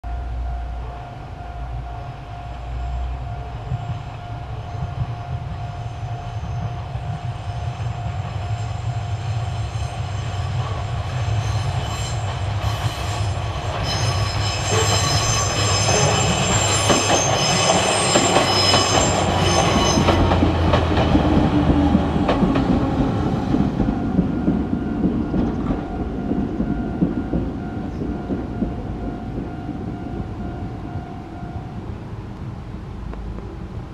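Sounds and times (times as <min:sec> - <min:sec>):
train wheels on rails: 0:00.1 - 0:33.9.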